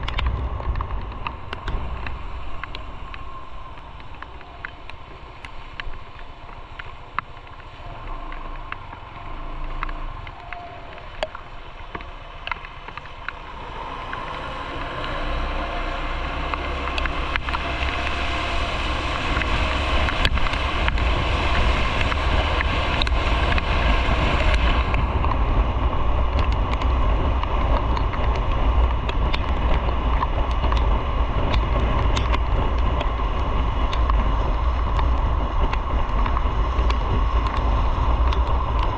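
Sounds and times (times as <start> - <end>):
motorcycle engine rumbling: 0.0 - 38.9
wind noise on microphone: 0.0 - 38.9.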